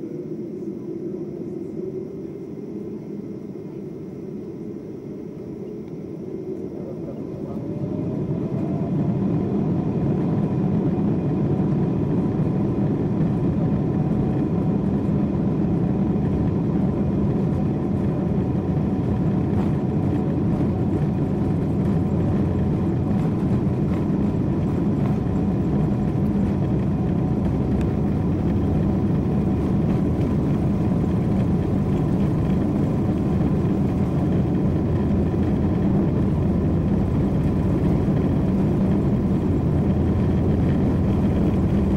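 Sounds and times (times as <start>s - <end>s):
jet engine rumble: 0.0s - 41.9s
jet engine whine: 0.0s - 41.9s.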